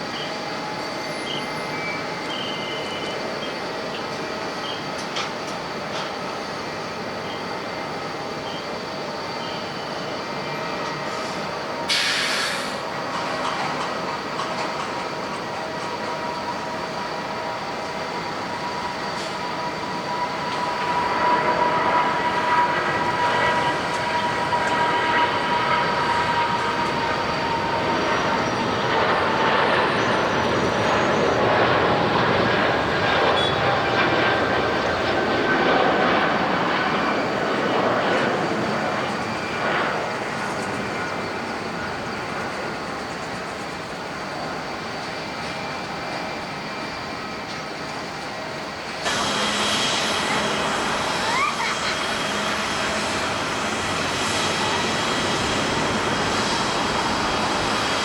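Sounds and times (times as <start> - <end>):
jet engines passing: 0.0 - 58.0.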